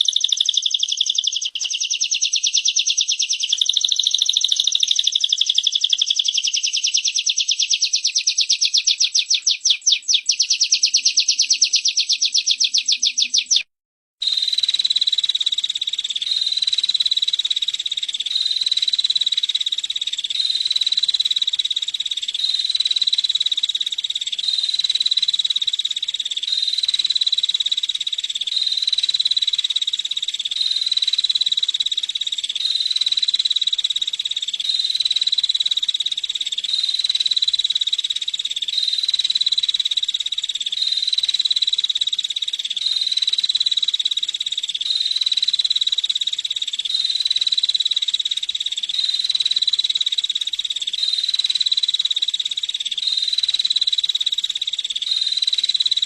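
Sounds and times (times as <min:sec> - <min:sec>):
bird high-pitched trill: 0:00.0 - 0:56.0.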